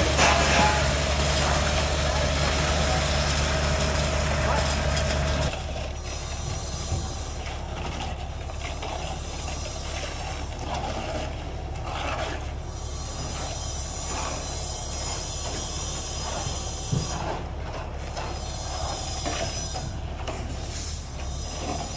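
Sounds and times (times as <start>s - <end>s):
machinery noise: 0.0s - 21.9s
squeaks and scrapes: 0.0s - 21.9s.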